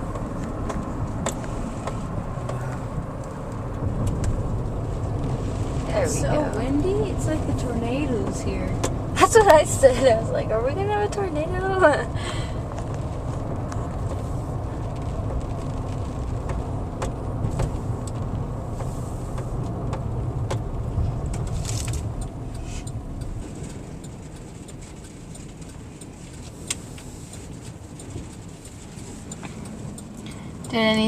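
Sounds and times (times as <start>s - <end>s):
car road noise rumble: 0.0s - 31.0s.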